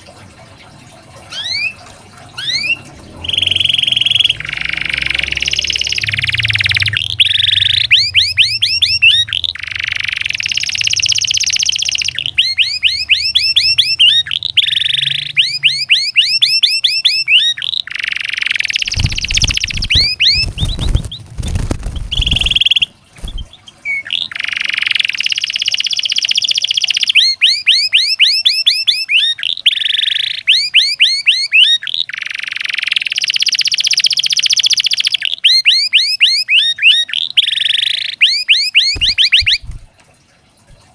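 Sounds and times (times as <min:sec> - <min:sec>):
canary singing: 0:01.3 - 0:39.8.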